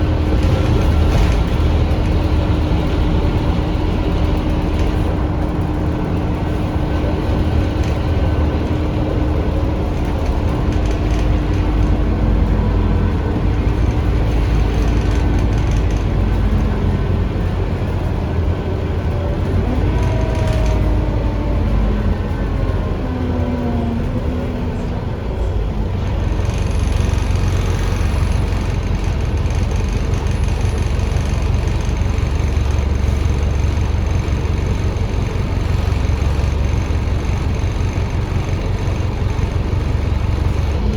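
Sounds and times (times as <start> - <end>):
bus engine droning: 0.0 - 40.9.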